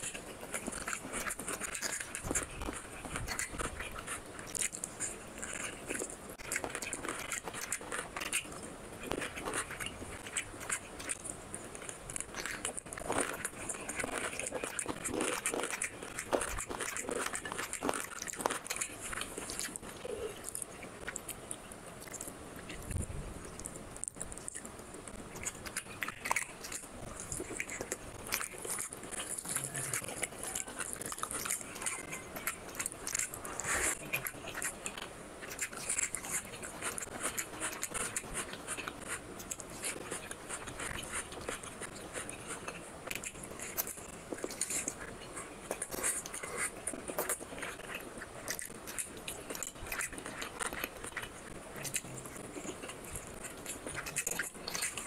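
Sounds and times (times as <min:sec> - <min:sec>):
wet chewing and mouth clicks: 0:00.0 - 0:55.0.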